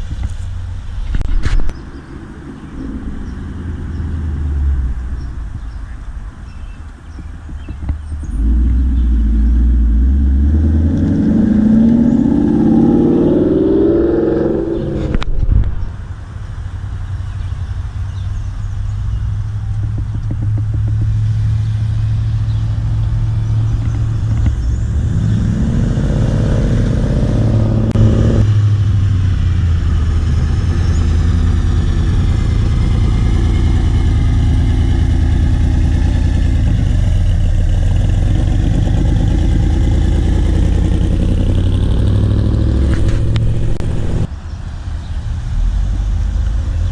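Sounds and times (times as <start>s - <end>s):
car engines rumbling: 0.0s - 46.9s
car accelerating: 2.0s - 15.9s, 18.1s - 46.9s
car engine revving: 7.2s - 15.9s, 18.1s - 46.9s.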